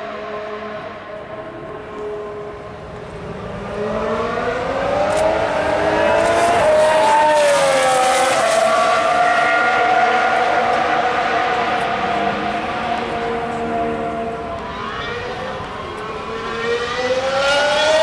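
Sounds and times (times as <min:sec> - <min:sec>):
racing car engine passing: 0:00.0 - 0:18.0.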